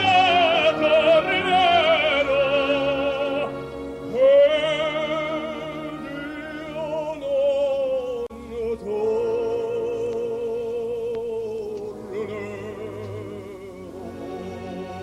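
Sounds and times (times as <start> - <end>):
orchestra playing: 0.0 - 15.0
tenor singing opera: 0.0 - 15.0.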